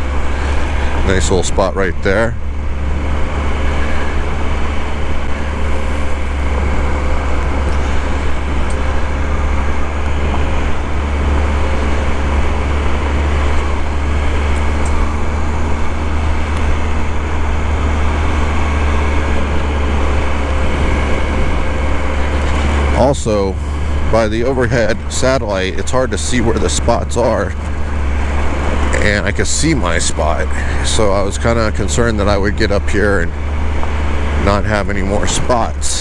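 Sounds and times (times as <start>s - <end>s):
motorcycle engine drone: 0.0s - 36.0s.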